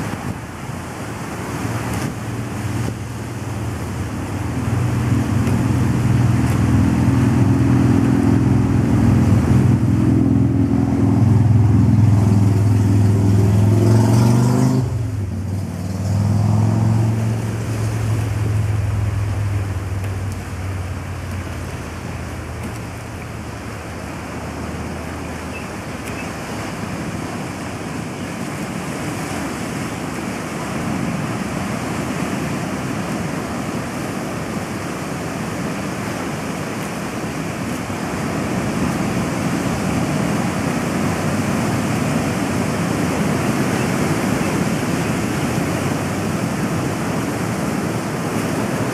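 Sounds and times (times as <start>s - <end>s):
surf: 0.0s - 48.9s.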